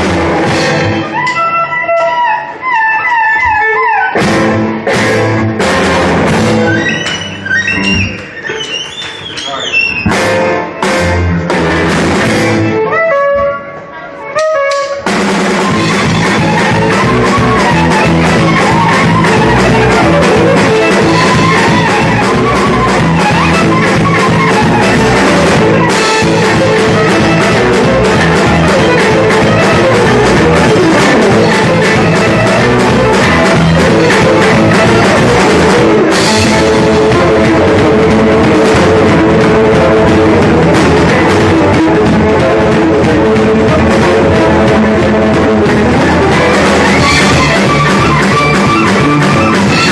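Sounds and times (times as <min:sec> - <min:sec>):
band with steady drum beat: 0:00.0 - 0:08.5, 0:09.7 - 0:13.6, 0:14.2 - 0:49.9
guitar notes: 0:00.0 - 0:08.8, 0:09.5 - 0:49.9.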